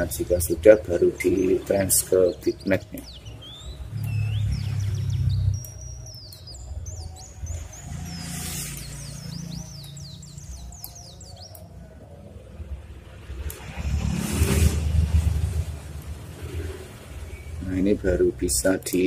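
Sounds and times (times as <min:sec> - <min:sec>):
steady low rumble: 0:00.0 - 0:18.4
birds chirping: 0:00.0 - 0:19.0.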